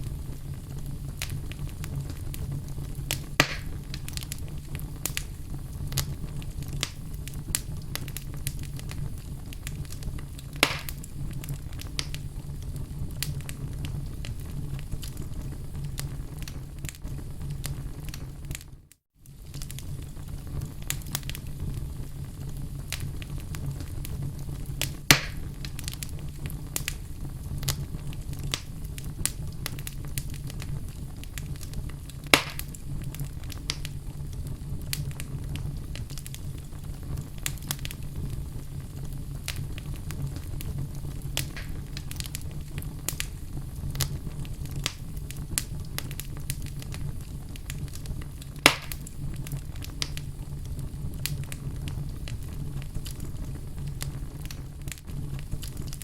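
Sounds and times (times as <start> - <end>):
fire rumbling: 0.0 - 56.0
wood fire crackling: 0.0 - 56.0.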